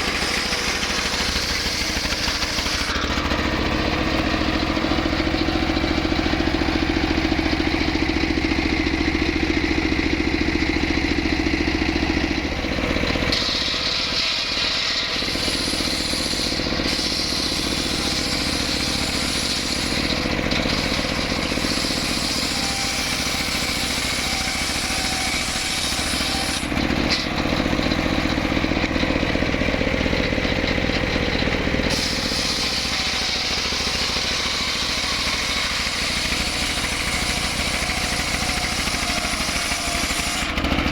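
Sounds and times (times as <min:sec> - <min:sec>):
chainsaw cutting wood: 0:00.0 - 0:08.1, 0:12.8 - 0:29.1, 0:31.8 - 0:40.9.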